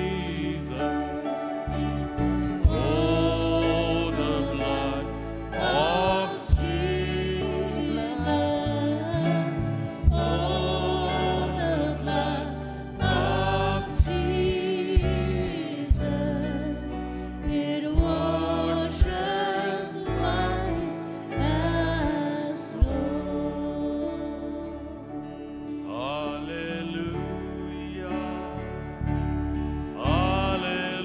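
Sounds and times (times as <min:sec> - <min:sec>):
acoustic guitar: 0:00.0 - 0:31.0
group singing worship chorus: 0:00.0 - 0:31.0
keyboard: 0:00.0 - 0:31.0.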